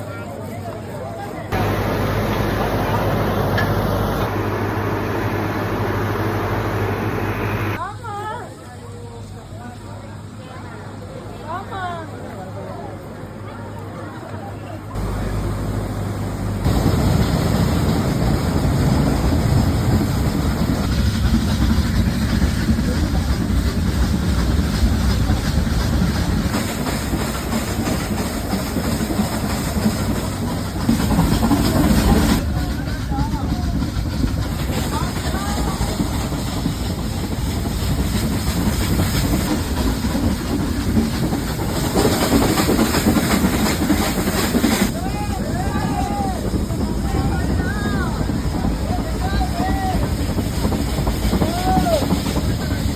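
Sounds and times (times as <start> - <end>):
train rumbling on track: 1.2 - 8.0, 10.2 - 52.9.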